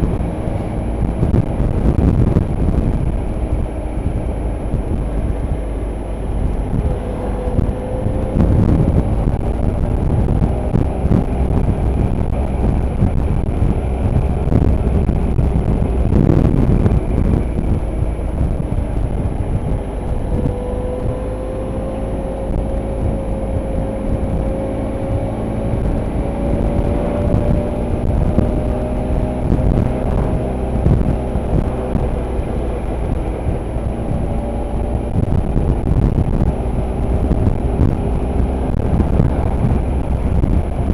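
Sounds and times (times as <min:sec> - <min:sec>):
motorcycle engine running: 0:00.0 - 0:40.9
road and wind rumble: 0:00.0 - 0:40.9.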